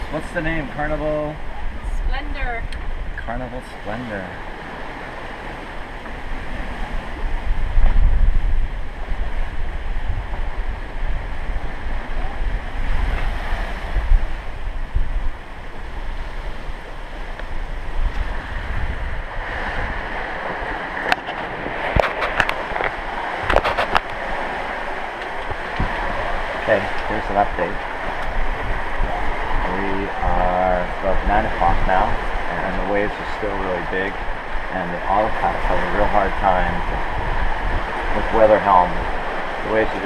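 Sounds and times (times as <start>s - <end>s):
sea waves: 0.0s - 40.0s
wind buffeting microphone: 0.0s - 40.0s
wind rushing: 3.8s - 40.0s.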